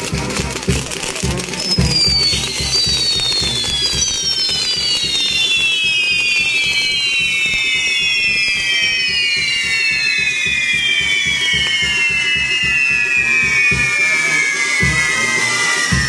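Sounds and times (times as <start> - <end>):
fireworks whistles shrilling: 0.0 - 16.0.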